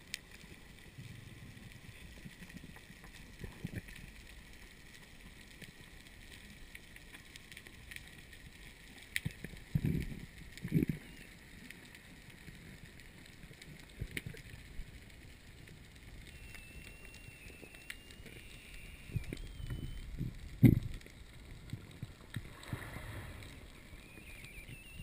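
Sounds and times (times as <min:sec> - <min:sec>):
faint underwater hiss: 0:00.0 - 0:25.0.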